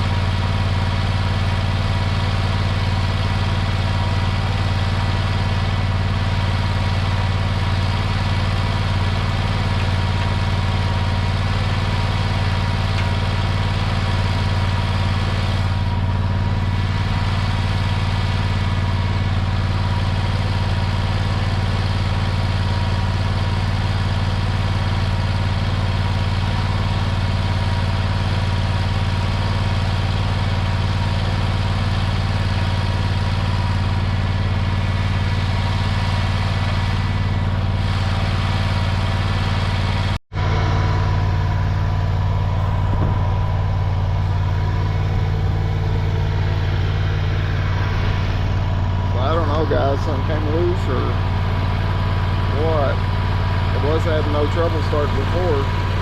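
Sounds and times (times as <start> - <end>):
gasoline engine running steadily: 0.0 - 56.0.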